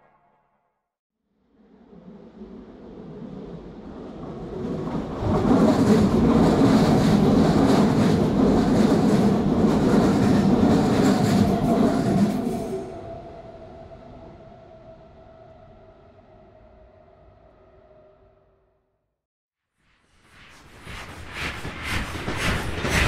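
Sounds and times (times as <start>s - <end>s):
train running past on track: 1.6s - 18.5s, 20.3s - 23.0s.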